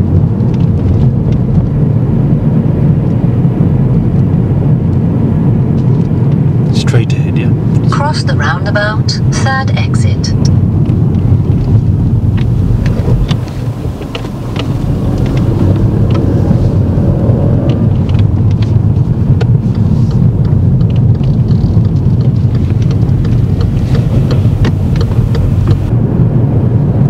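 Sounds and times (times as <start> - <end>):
car interior road rumble: 0.0 - 27.0.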